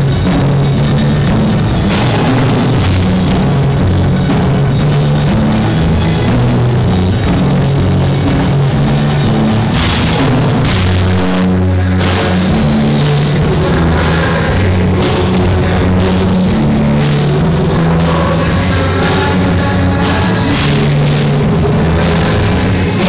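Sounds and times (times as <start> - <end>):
bass line: 0.0 - 23.0
drum kit with cymbal crashes: 0.0 - 23.0.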